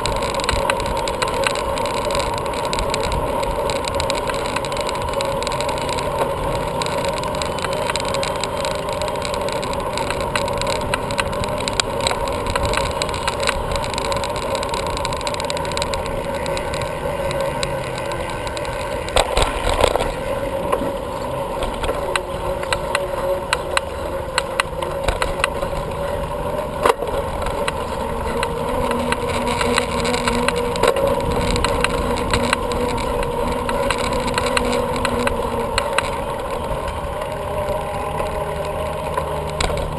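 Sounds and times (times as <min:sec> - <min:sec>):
bicycle tyre and wind noise: 0:00.0 - 0:39.9
bike clicks and rattles: 0:00.0 - 0:39.9.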